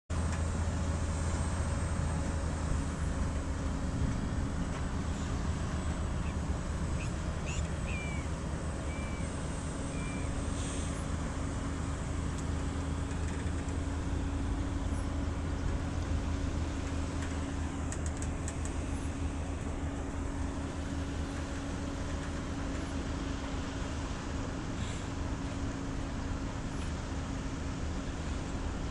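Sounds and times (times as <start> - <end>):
truck diesel engine running: 0.1 - 28.9.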